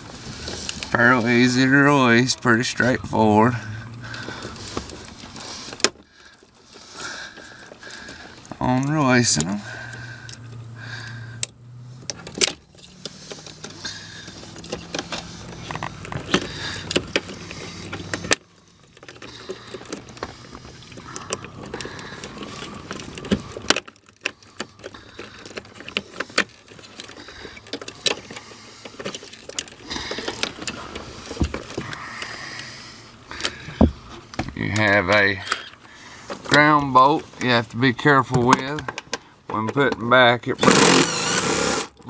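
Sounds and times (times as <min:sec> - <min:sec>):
steady low hum: 0:00.0 - 0:34.6
wires being handled: 0:00.0 - 0:42.0.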